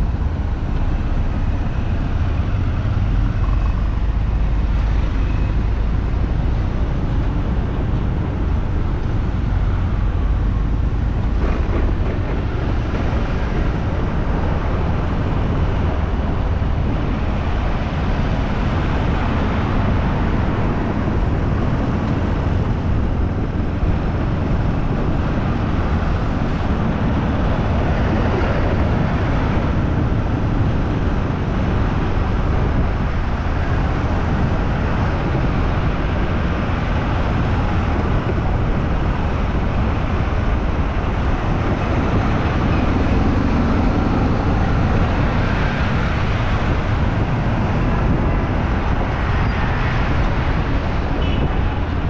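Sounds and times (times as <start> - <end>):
road traffic: 0.0 - 52.0
wind rumble: 0.0 - 52.0.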